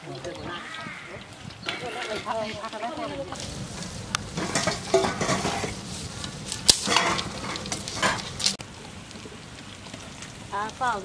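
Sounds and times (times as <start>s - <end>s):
eggs sizzling in hot oil: 0.2s - 11.0s.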